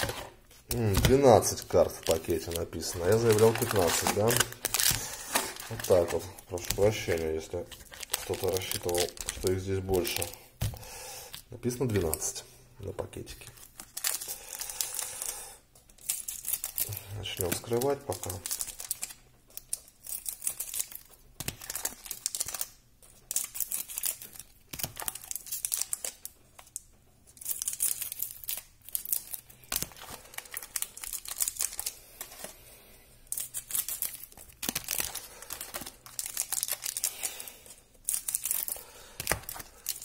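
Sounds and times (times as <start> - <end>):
foil wrappers tearing and crinkling: 0.0 - 10.4, 13.5 - 15.4, 16.0 - 32.5, 33.3 - 40.0.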